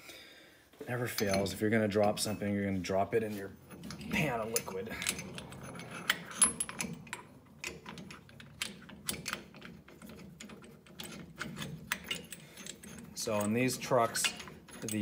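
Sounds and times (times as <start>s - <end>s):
metal tool clicking and clinking: 1.1s - 2.5s, 3.7s - 15.0s.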